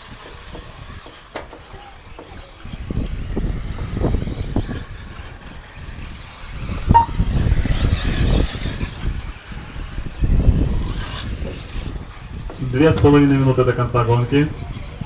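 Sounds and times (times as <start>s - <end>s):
rc car tyre and motor noise: 0.0s - 15.0s
wind buffeting microphone: 0.0s - 15.0s.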